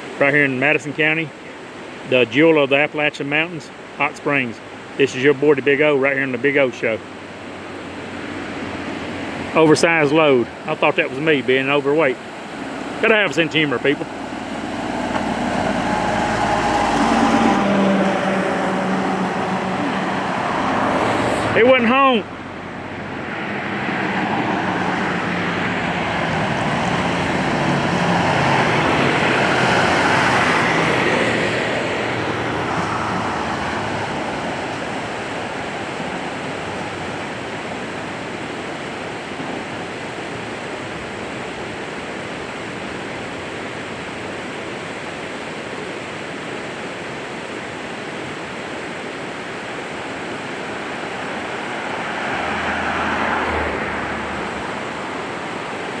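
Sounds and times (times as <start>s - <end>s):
steady rushing noise: 0.0s - 56.0s
vehicle passing on highway: 7.0s - 56.0s.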